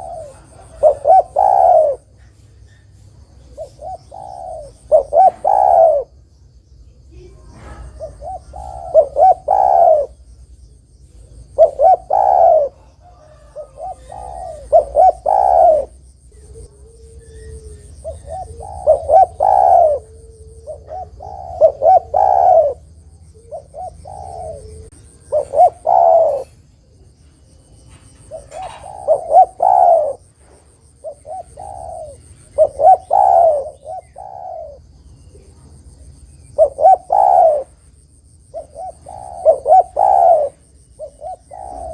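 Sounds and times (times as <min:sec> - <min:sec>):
dove cooing: 0:00.0 - 0:02.5, 0:03.4 - 0:06.2, 0:07.2 - 0:10.3, 0:11.0 - 0:37.8, 0:38.5 - 0:41.9.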